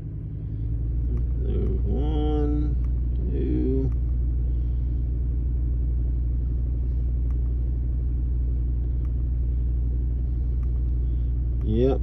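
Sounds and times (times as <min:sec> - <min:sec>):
misfiring car engine drone: 0:00.0 - 0:12.0.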